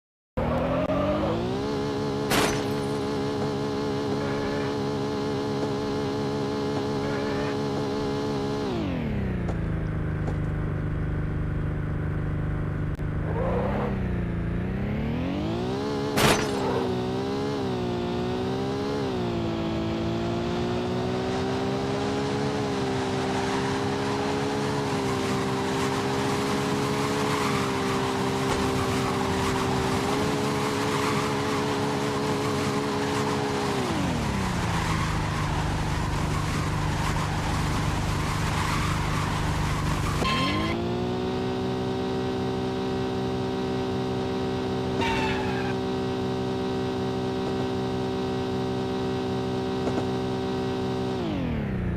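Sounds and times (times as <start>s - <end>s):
car engine revving: 0.4s - 51.9s.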